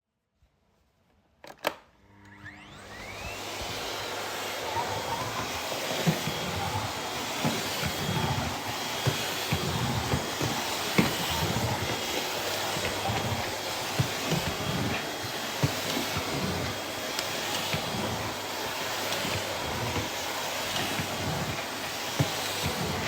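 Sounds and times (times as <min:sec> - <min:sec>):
vacuum cleaner running: 0:02.0 - 0:23.0.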